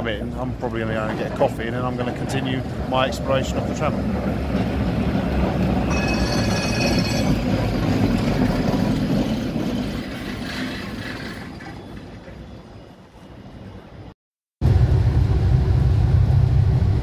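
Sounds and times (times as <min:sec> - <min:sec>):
tram wheels rumbling on rails: 0:00.0 - 0:17.0
tram wheel squeal: 0:00.1 - 0:14.1.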